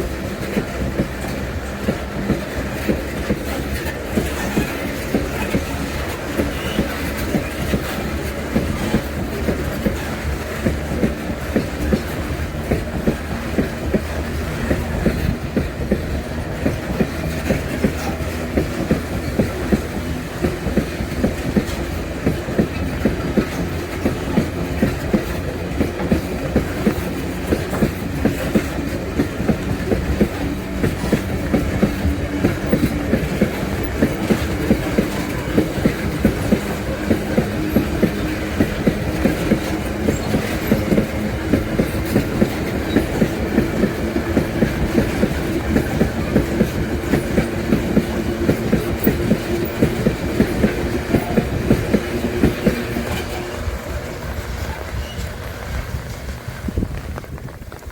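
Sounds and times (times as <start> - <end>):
freight wagons clickety-clack: 0.0 - 57.9.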